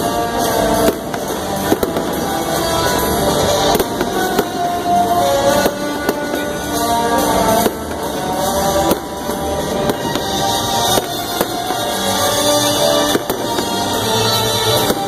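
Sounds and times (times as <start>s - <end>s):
fireworks bursting: 0.0s - 15.0s
loud music: 0.0s - 15.0s.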